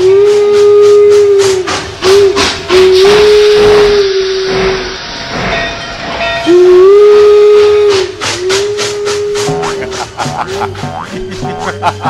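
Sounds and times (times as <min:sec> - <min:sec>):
steam locomotive whistle: 0:00.0 - 0:05.6, 0:06.3 - 0:12.0
steam hissing: 0:00.0 - 0:12.0.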